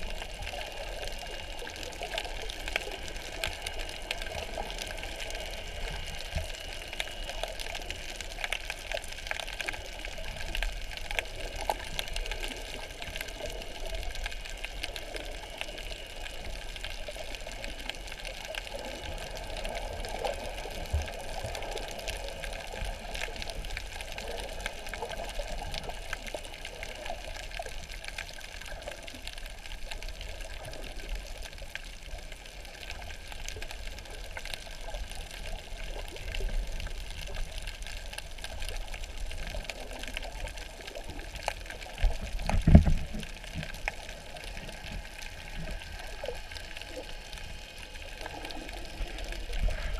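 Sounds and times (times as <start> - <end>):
faint underwater clicks: 0.0 - 49.9
muffled wash of moving water: 0.0 - 49.9.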